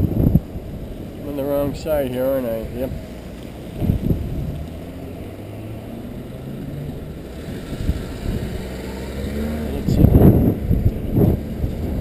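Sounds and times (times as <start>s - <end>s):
car engines in traffic: 0.0s - 12.0s
wind buffeting microphone: 0.0s - 12.0s.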